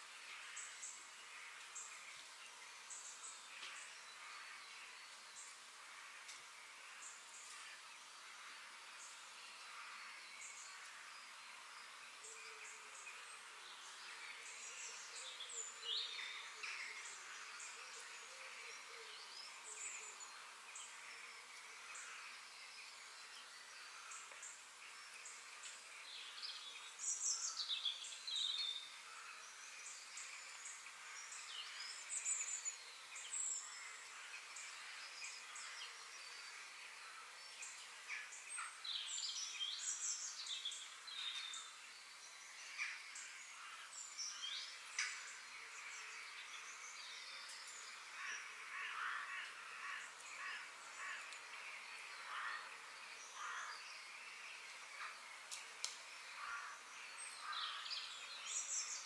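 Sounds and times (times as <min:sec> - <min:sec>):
faint steady hiss: 0:00.0 - 0:59.0
songbirds singing and chirping: 0:00.0 - 0:59.0.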